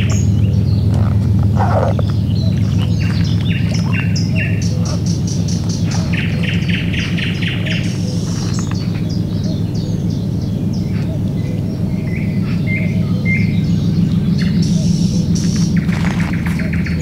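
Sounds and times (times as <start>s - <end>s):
songbirds chirping and trilling: 0.0s - 17.0s
steady low hum: 0.0s - 17.0s.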